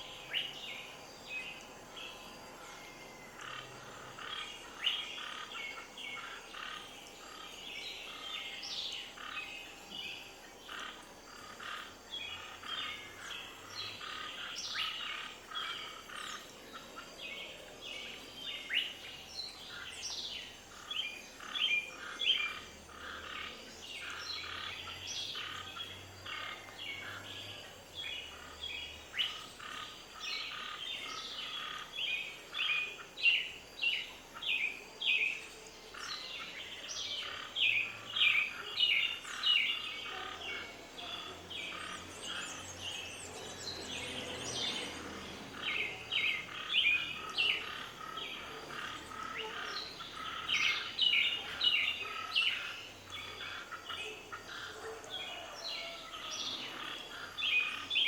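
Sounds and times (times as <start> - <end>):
birds chirping in chorus: 0.0 - 58.0
faint background hiss: 0.0 - 58.0.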